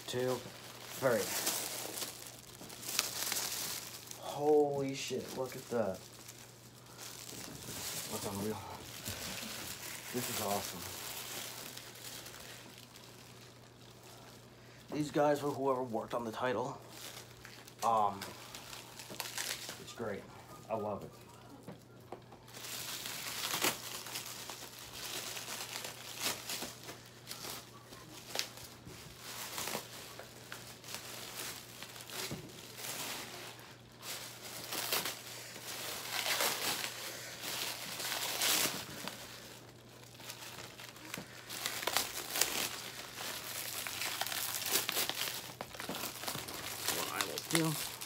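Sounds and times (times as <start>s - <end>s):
plastic packaging crinkling: 0.0s - 21.7s, 22.3s - 48.0s.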